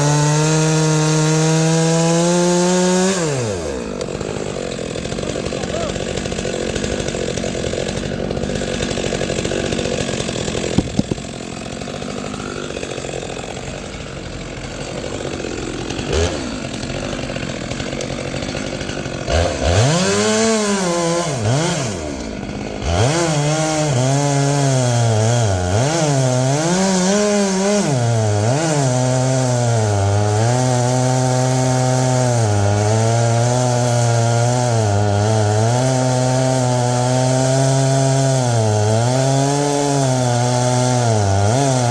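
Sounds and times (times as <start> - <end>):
chainsaw revving and cutting wood: 0.0 - 41.9.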